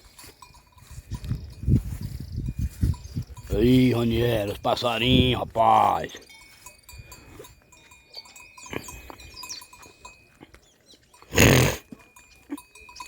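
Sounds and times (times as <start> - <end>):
faint ringing clinks: 0.0 - 4.0, 6.1 - 13.0
songbirds chirping: 0.0 - 13.0.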